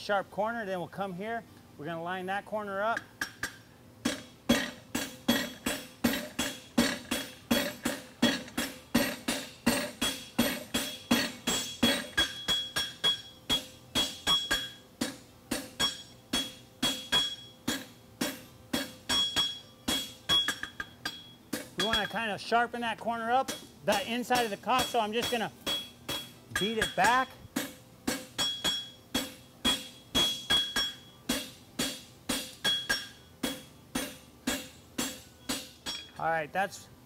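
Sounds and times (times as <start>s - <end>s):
hammer striking hot steel on anvil: 3.0s - 22.3s, 23.1s - 36.2s
anvil metallic ring: 3.4s - 22.3s, 23.4s - 36.2s.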